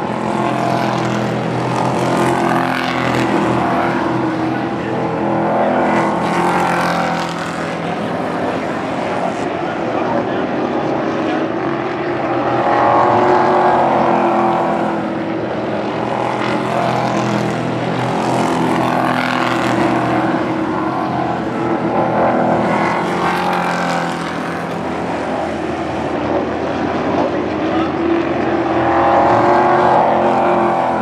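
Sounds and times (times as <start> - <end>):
race truck engines racing past: 0.0 - 31.0.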